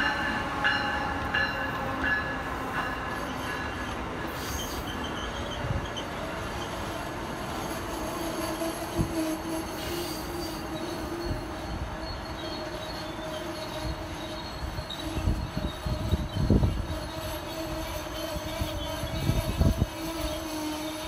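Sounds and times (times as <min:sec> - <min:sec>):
train wheels on rails: 0:00.0 - 0:21.0
wheel squeal: 0:03.3 - 0:21.0.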